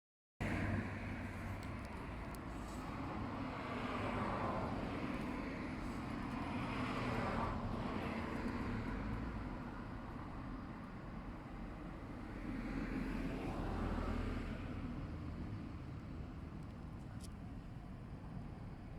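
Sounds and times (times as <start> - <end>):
vehicles passing: 0.4 - 18.7
road traffic: 0.4 - 18.9.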